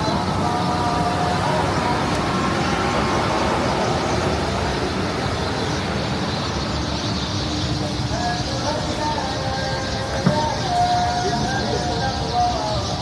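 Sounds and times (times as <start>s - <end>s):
indistinct voices: 0.0s - 13.0s
traffic passing: 0.0s - 13.0s.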